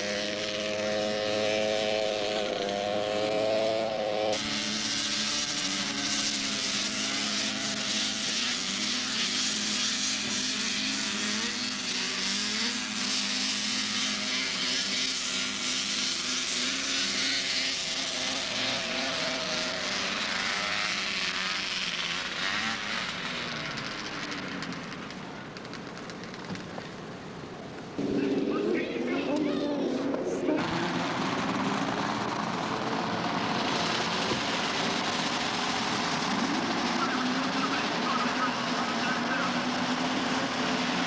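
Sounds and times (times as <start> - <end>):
snowmobile engines running hard: 0.0 - 41.0.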